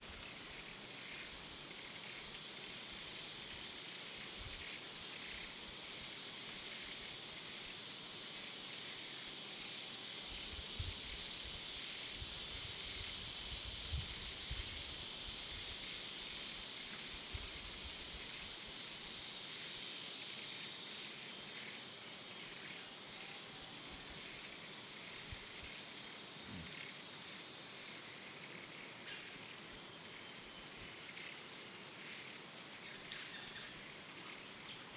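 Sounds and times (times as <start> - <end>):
high-pitched insect chorus: 0.0 - 34.9
lower insect buzz: 0.0 - 34.9.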